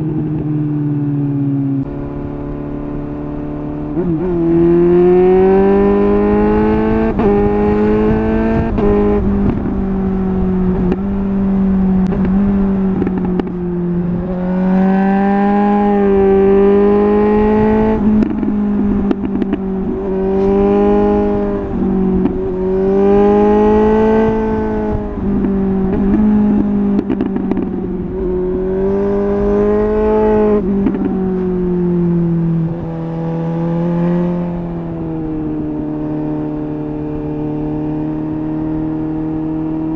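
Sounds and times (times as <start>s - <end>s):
motorcycle engine running: 1.8s - 39.9s.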